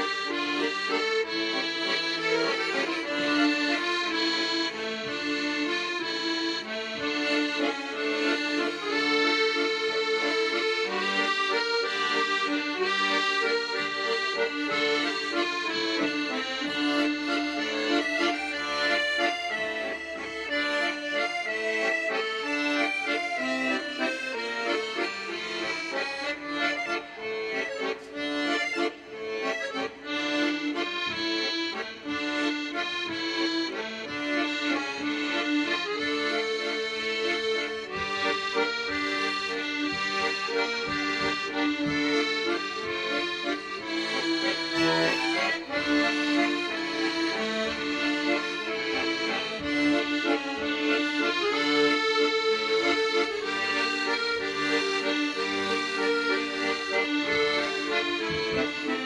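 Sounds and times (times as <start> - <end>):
accordion ensemble playing: 0.0 - 59.0.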